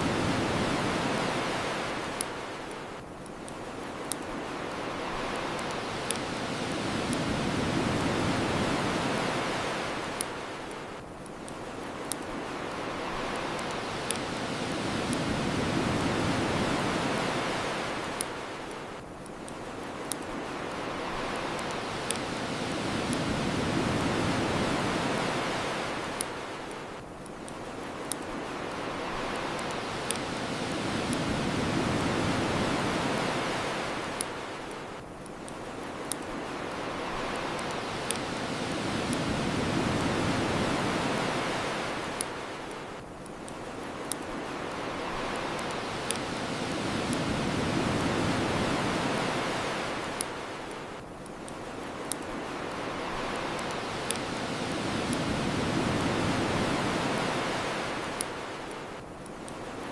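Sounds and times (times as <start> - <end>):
ocean waves washing ashore: 0.0 - 59.9
bonfire crackling pops: 0.2 - 59.8.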